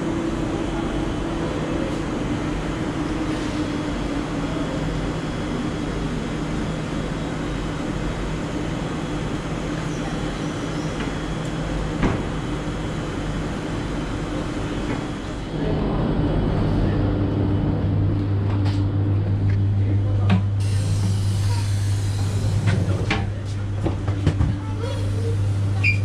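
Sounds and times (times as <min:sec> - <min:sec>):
train mechanical hum: 0:00.0 - 0:26.0.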